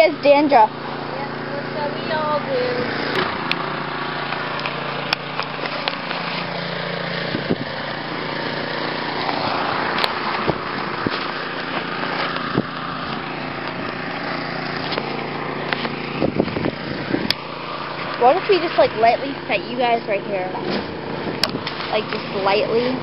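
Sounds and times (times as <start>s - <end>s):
snowblower engine running: 0.0s - 23.0s.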